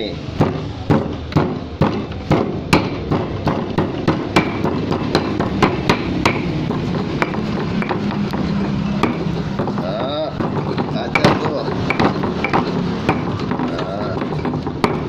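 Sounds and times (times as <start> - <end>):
ginger root being pounded: 0.0 - 15.0.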